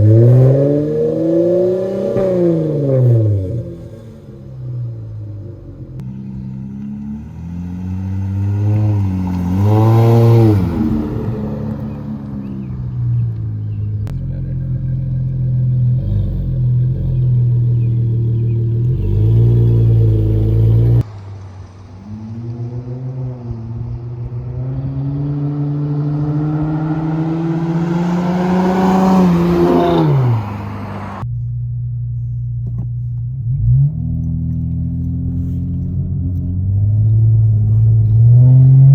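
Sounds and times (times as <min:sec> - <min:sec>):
car engine revving: 0:00.0 - 0:31.4, 0:32.8 - 0:38.9.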